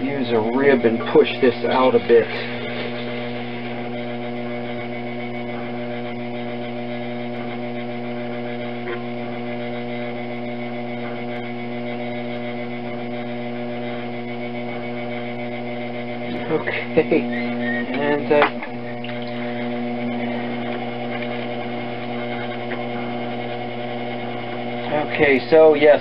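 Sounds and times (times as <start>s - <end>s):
potter's wheel humming: 0.0s - 26.0s.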